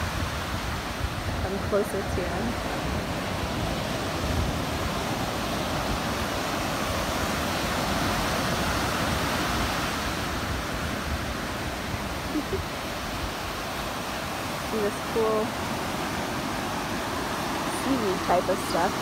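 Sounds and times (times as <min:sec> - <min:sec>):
ocean surf breaking on shore: 0:00.0 - 0:19.0.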